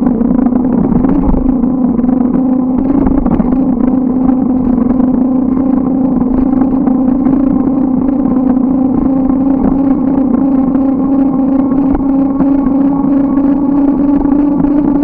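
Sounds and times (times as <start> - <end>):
bicycle hum on road: 0.0 - 15.0.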